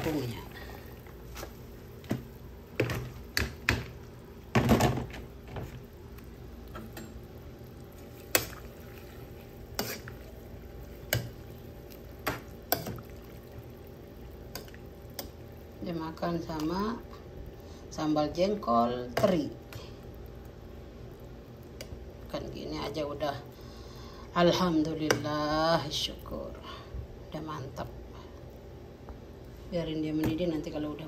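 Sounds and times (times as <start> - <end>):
water boiling: 0.0 - 26.6.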